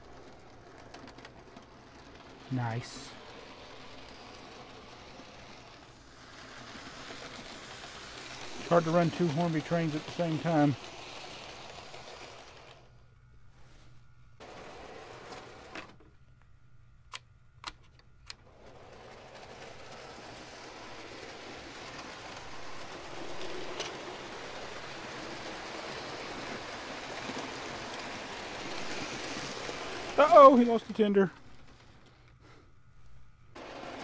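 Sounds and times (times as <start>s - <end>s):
model train whirring on rails: 0.0s - 13.1s, 14.4s - 16.1s, 18.2s - 32.6s, 33.3s - 34.0s.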